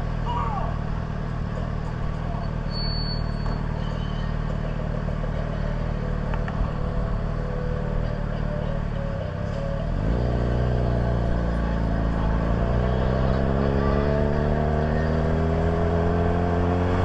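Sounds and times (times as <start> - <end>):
vehicle engine accelerating: 0.8 - 17.0.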